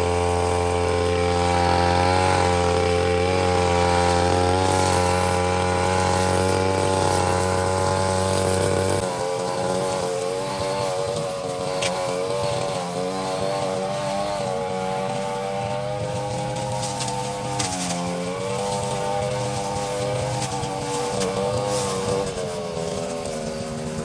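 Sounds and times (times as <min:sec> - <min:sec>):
brushcutter engine high revs: 0:00.0 - 0:24.0.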